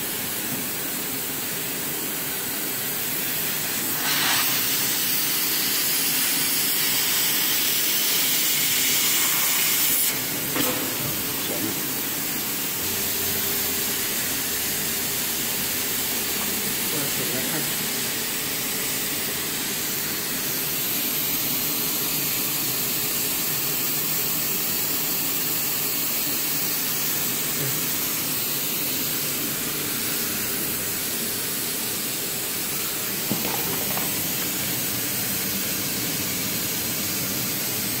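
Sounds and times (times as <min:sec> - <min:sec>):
hot-air blower hissing: 0:00.0 - 0:38.0.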